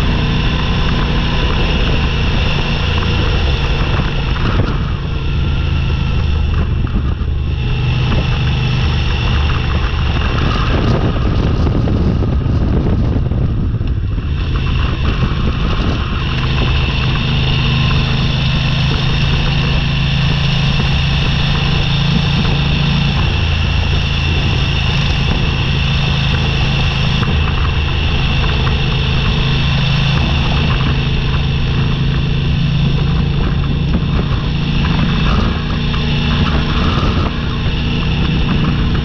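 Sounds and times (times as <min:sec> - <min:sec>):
gravel crackling under tyres: 0:00.0 - 0:39.0
motorcycle engine running: 0:00.0 - 0:39.0.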